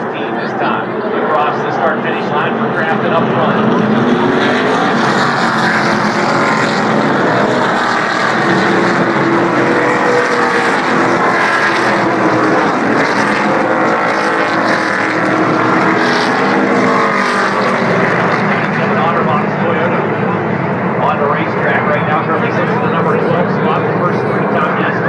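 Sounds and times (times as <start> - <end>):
race truck engines droning: 0.0 - 25.0.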